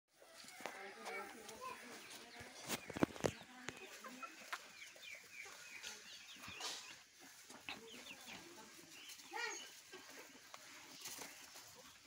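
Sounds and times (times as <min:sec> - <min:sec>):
pigeons chirping: 0:01.6 - 0:12.0.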